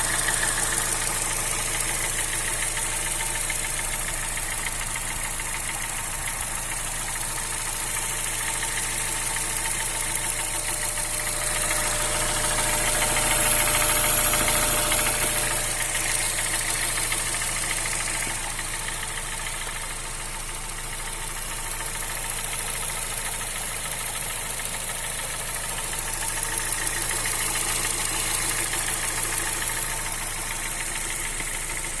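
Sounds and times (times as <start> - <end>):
car engine idling: 0.0 - 32.0
rapid engine ticking: 0.0 - 32.0.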